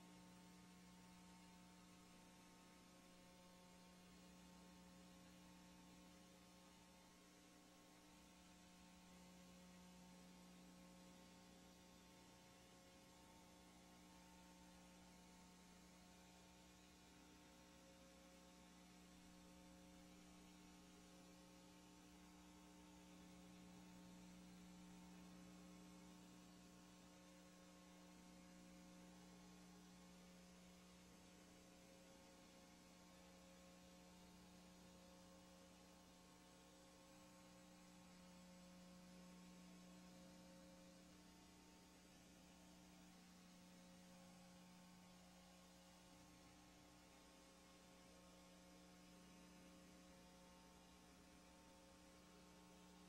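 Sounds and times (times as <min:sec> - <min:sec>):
faint steady hum with hiss: 0:00.0 - 0:53.0.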